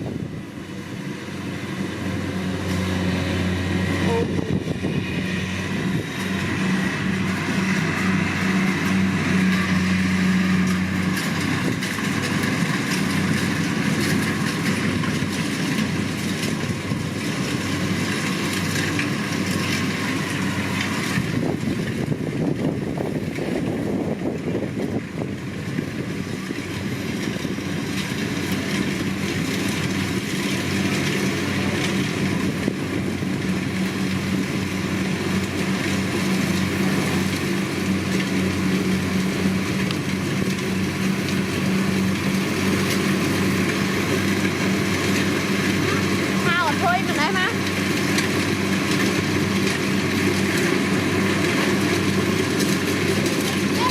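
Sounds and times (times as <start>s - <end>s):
diesel engine drone: 0.0s - 53.9s
machinery clatter: 1.8s - 53.9s.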